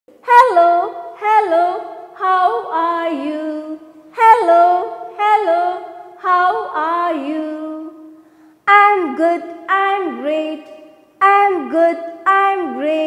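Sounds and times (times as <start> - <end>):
woman singing unaccompanied: 0.1 - 13.0.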